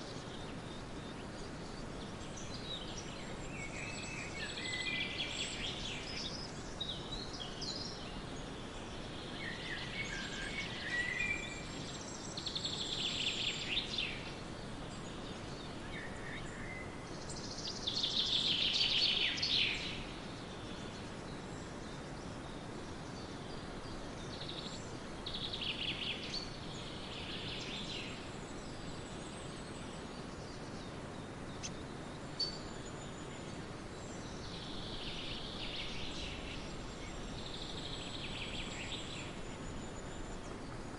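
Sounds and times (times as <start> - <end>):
birds singing: 0.0 - 40.9
steady background hiss: 0.0 - 40.9.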